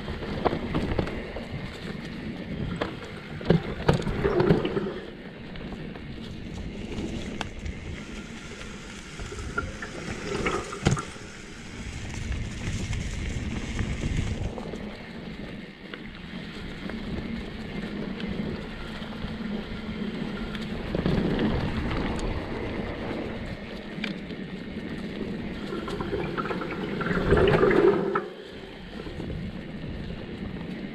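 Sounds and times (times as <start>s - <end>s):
bike tyres rolling over dirt: 0.0s - 30.9s
wind rushing on microphone: 0.0s - 30.9s.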